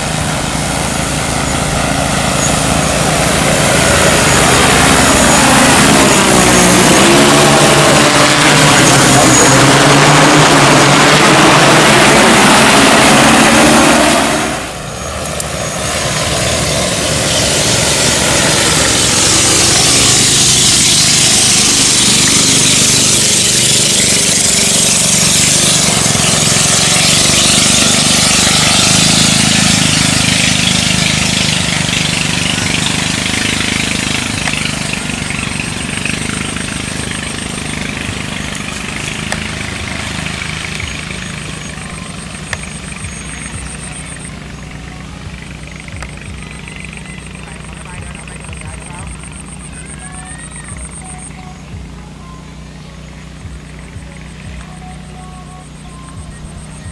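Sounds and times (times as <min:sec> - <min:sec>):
drone rotors droning: 0:00.0 - 0:56.9.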